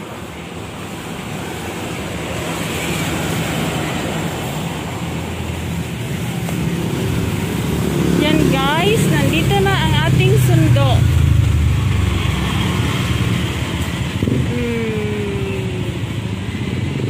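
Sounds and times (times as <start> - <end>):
coach bus driving past: 0.0 - 17.0.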